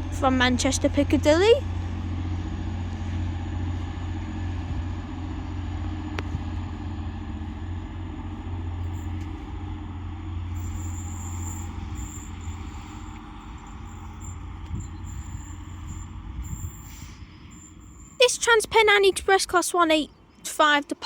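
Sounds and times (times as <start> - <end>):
diesel train engine idling: 0.0 - 21.0.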